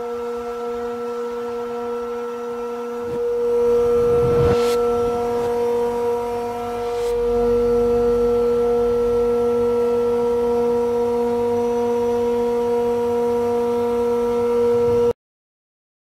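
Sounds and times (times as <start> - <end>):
screw compressors humming and whining: 0.0 - 15.1.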